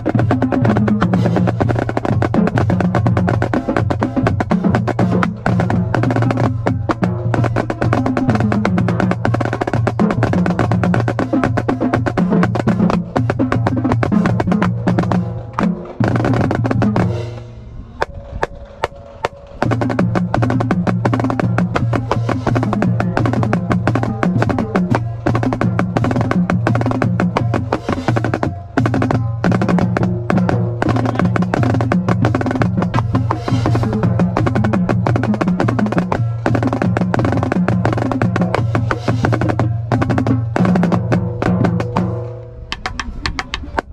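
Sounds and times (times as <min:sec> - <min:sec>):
snare drum rolls: 0:00.0 - 0:43.9.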